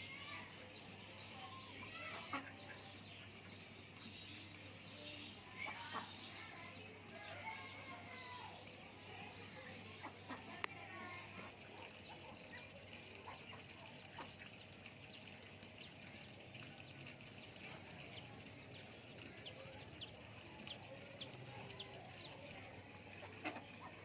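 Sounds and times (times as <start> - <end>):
small birds cheeping: 0.0 - 24.0.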